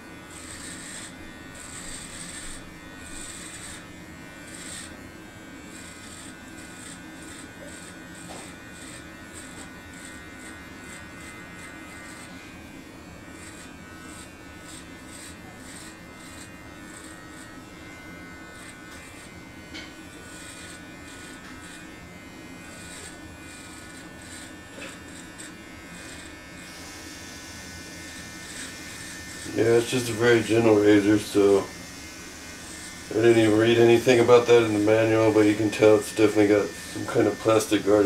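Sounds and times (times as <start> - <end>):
electric body trimmer buzzing: 0.0 - 38.0
trimmer rasping on hair: 0.0 - 38.0.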